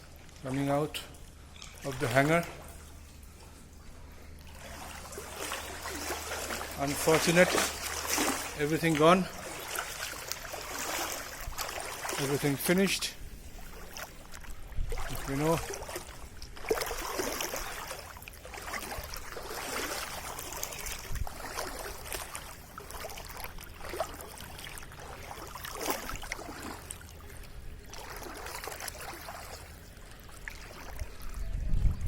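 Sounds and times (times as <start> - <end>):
running and trickling water: 0.0 - 32.0.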